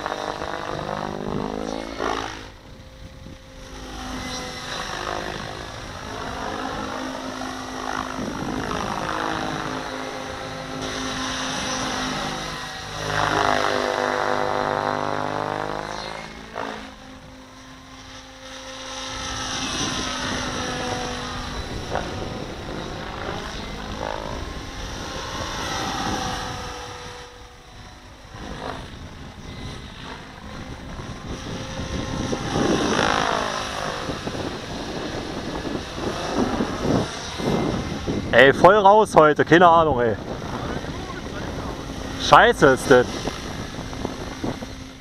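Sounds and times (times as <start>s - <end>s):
model helicopter rotor whining: 0.0s - 45.0s.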